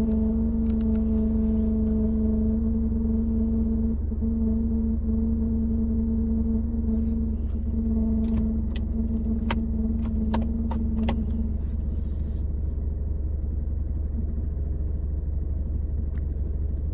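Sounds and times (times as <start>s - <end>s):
car engine rumbling: 0.0s - 16.9s
steady hum: 0.0s - 16.9s.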